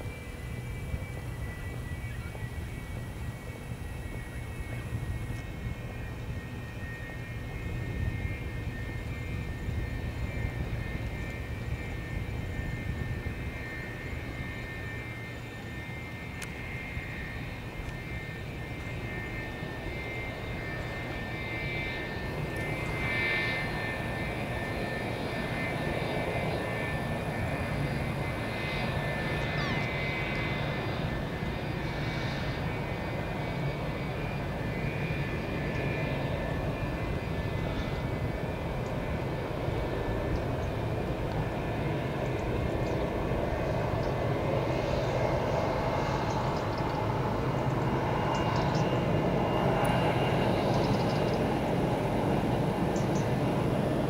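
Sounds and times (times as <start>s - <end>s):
jet engines rumbling with high whine: 0.0s - 54.0s.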